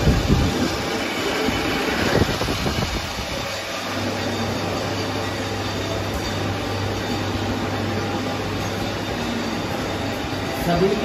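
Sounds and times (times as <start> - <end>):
steady low hum: 0.0 - 11.0
workshop machinery running: 0.0 - 11.0.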